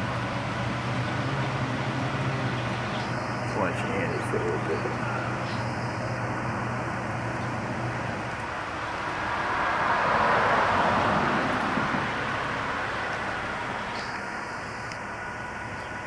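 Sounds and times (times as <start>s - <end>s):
vehicle passing by: 0.0s - 14.3s.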